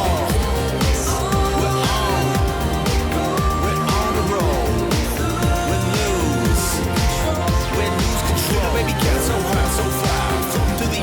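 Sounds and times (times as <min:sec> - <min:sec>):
pop-rap music with synth: 0:00.0 - 0:11.0.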